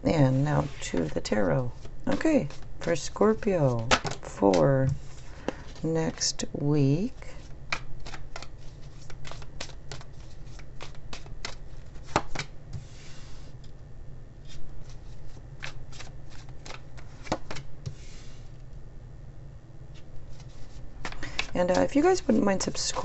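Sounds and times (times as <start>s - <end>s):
cards being shuffled: 0.4s - 6.2s, 7.4s - 13.3s, 14.4s - 18.5s, 19.9s - 23.0s.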